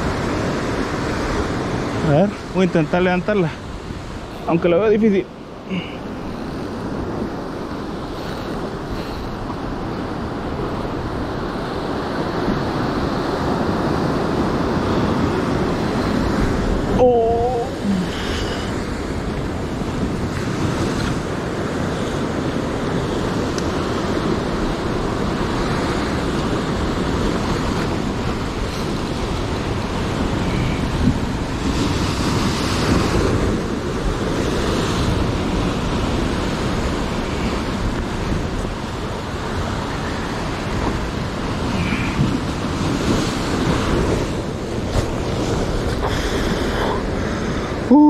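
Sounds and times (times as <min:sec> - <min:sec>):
surf breaking over rocks: 0:00.0 - 0:48.0
wind buffeting microphone: 0:00.0 - 0:48.0.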